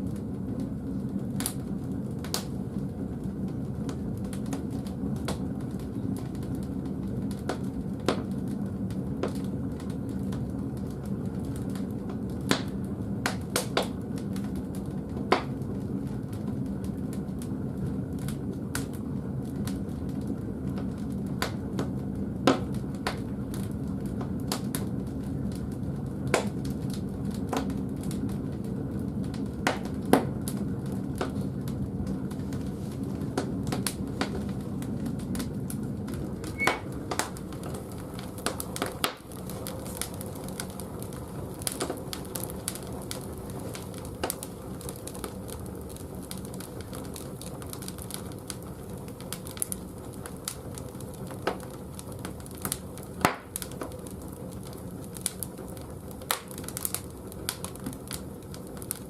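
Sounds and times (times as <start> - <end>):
firewood crackling and popping: 0.0 - 59.0.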